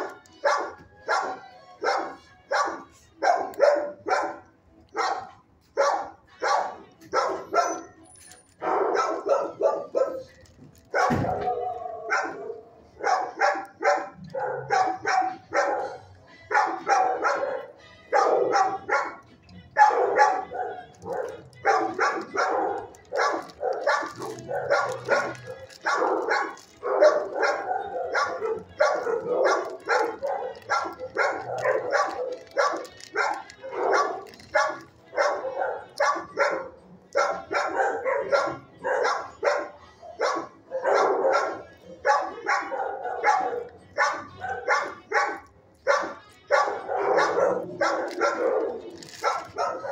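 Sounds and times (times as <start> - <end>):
many dogs barking: 0.0 - 8.0, 8.6 - 49.9.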